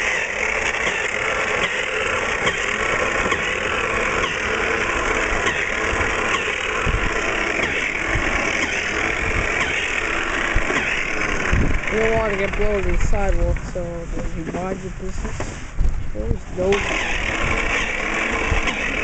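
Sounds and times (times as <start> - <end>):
electric snow thrower running: 0.0 - 15.2, 16.6 - 19.0.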